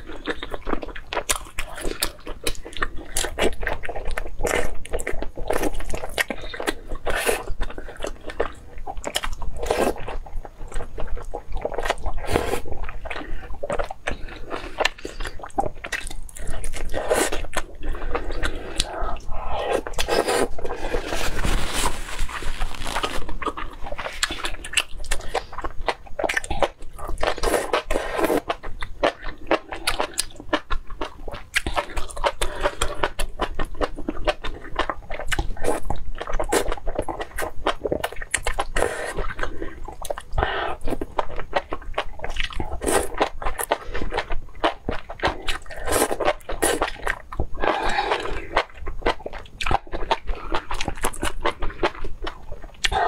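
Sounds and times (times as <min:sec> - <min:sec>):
person chewing and crunching: 0:00.0 - 0:53.0.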